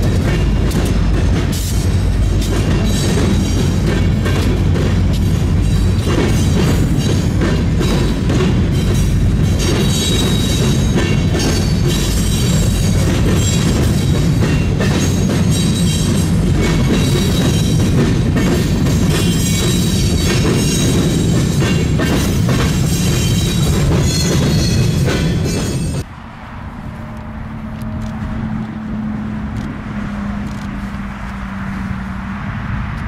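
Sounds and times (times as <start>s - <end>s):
high wheel squealing: 0.0s - 32.5s
freight train cars rolling past: 0.0s - 32.8s
distant diesel locomotive hum: 0.0s - 33.0s.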